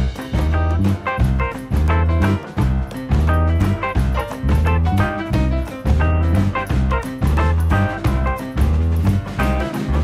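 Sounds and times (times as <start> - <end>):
upbeat swing music: 0.0 - 10.0.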